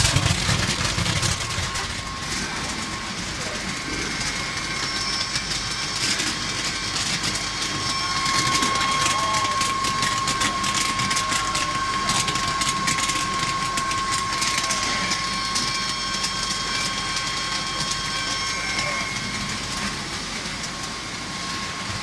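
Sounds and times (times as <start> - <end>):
rapid irregular clicking: 0.0 - 20.9
sorting machine humming and whining: 0.0 - 22.0.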